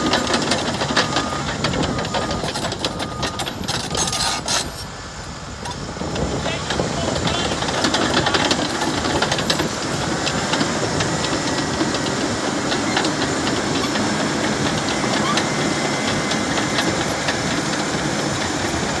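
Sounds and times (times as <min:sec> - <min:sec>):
bulldozer engine drone: 0:00.0 - 0:19.0
steel tracks clanking: 0:00.0 - 0:19.0.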